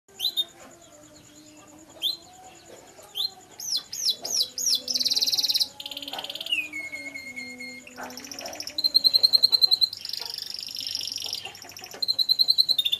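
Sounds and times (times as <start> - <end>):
canary singing: 0.1 - 12.9.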